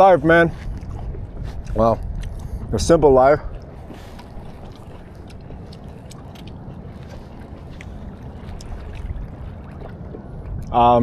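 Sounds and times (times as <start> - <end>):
water and wind around boat: 0.0 - 11.0.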